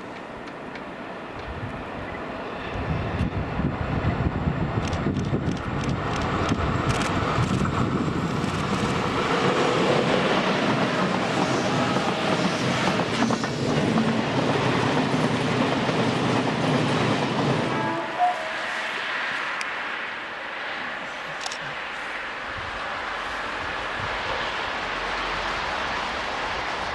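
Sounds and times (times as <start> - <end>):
freight train rattling over rails: 0.0 - 26.9.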